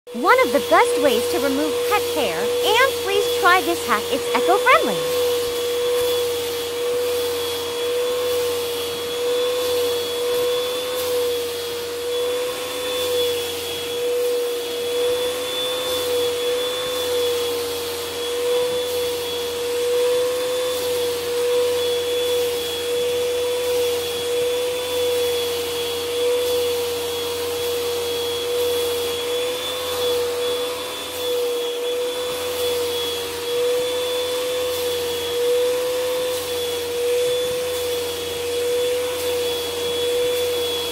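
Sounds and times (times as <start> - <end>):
vacuum cleaner running: 0.1 - 40.9.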